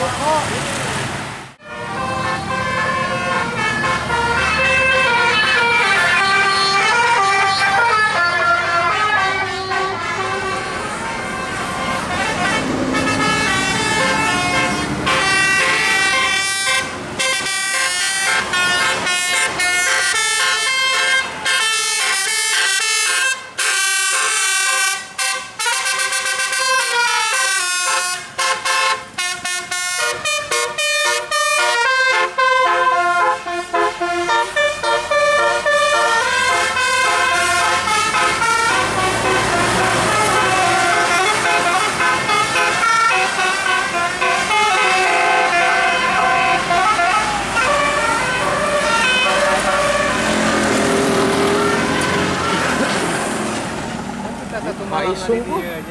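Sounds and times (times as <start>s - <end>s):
bus horns playing melodies: 1.6s - 54.0s.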